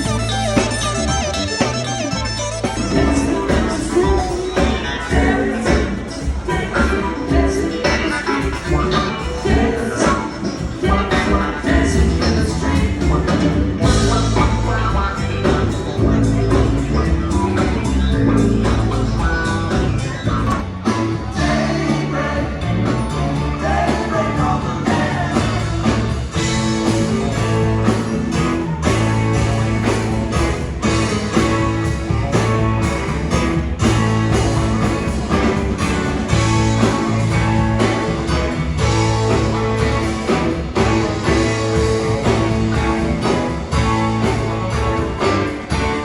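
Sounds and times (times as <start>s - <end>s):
electric guitar: 0.0s - 46.0s
live rock band playing: 0.0s - 46.0s.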